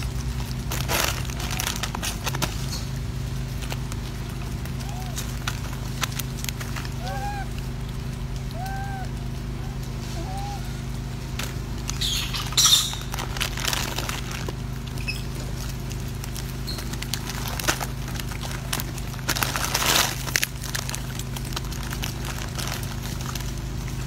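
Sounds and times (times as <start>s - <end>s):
monkeys handling fruit: 0.0s - 24.0s
steady low hum: 0.0s - 24.0s.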